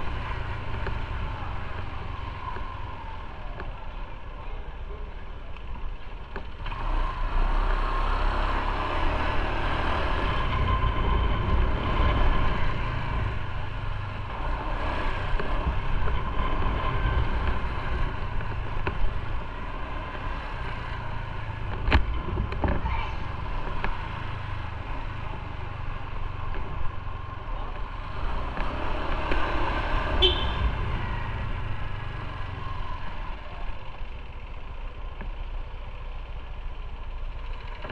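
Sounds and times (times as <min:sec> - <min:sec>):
motorcycle engine and road noise: 0:00.0 - 0:37.9.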